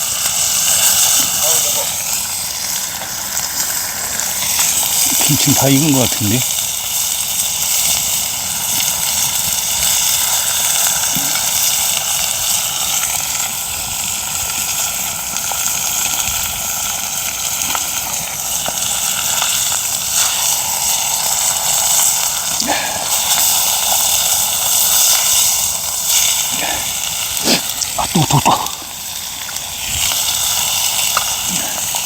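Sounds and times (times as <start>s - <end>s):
fish sizzling in oil: 0.0s - 32.0s.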